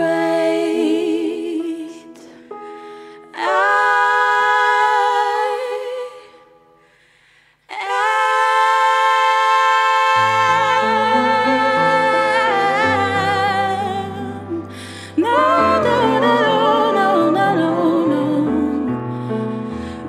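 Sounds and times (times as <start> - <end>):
person singing with vibrato: 0.0 - 7.0, 7.6 - 20.0.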